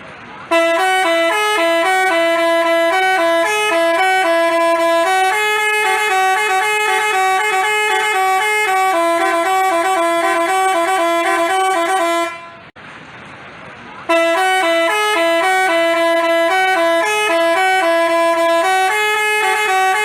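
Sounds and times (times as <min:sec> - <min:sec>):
multi-tone bus horn melody: 0:00.3 - 0:12.8, 0:14.0 - 0:20.0.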